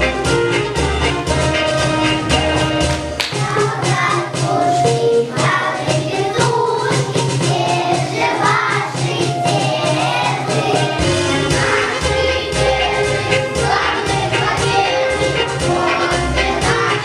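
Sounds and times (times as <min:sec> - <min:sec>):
instrumental accompaniment with beat: 0:00.0 - 0:17.0
children singing together: 0:03.3 - 0:17.0.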